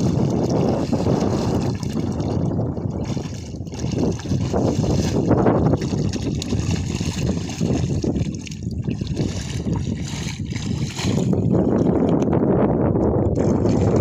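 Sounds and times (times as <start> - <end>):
splashing shallow water: 0.0 - 12.2, 13.3 - 14.0
wind rumbling on microphone: 0.0 - 14.0.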